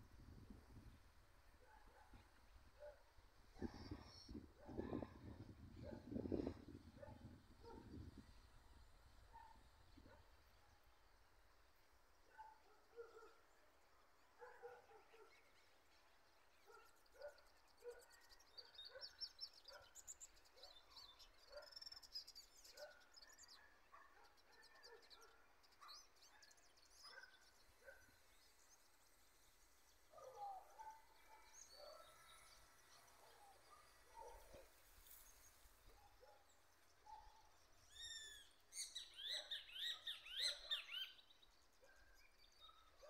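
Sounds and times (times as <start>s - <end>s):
faint birdsong: 0.0s - 43.0s.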